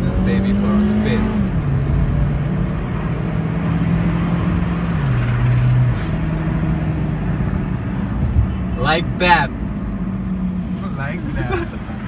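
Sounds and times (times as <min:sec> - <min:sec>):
car engine humming: 0:00.0 - 0:12.0
road and tyre noise: 0:00.0 - 0:12.0.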